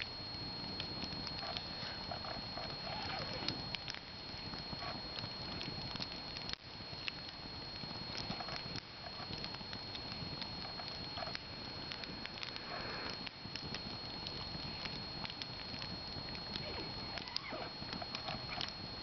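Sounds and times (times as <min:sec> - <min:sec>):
campfire crackling and popping: 0:00.4 - 0:19.0.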